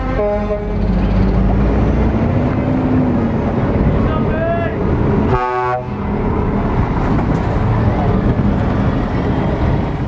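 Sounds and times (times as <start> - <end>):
truck diesel engine passing: 0.0 - 10.0.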